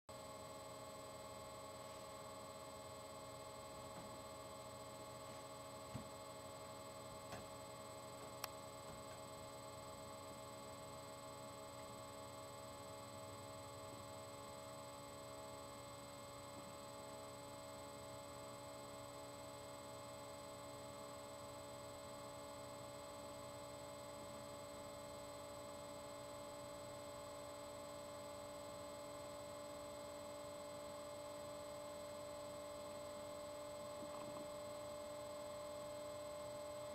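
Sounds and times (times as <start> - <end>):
faint electrical hum: 0.1 - 36.9.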